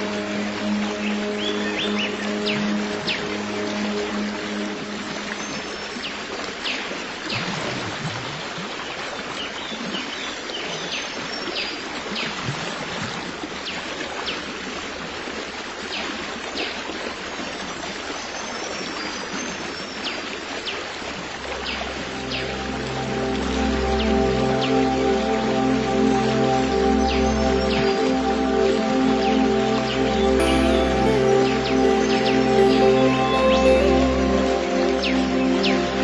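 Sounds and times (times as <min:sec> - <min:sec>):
stream of water flowing: 0:00.0 - 0:36.0.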